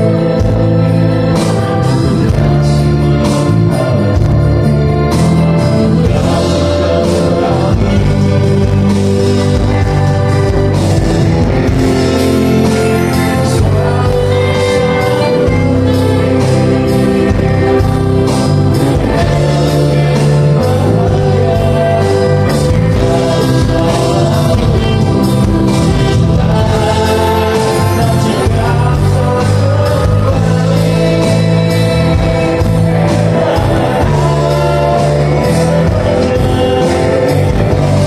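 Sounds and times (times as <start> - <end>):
live band playing: 0.0 - 38.0
person singing: 0.0 - 38.0.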